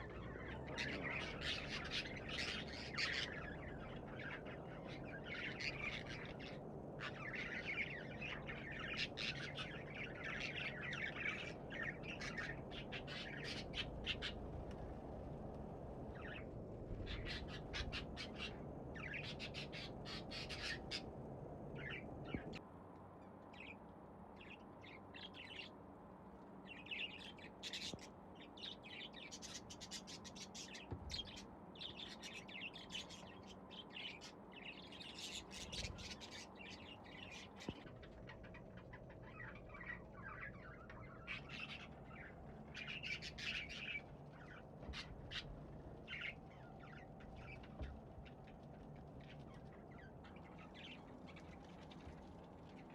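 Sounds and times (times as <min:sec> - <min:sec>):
budgerigars chirping and chattering: 0:00.0 - 0:14.4, 0:17.0 - 0:21.1, 0:21.8 - 0:22.6, 0:26.7 - 0:51.8
low background hum: 0:00.0 - 0:52.9.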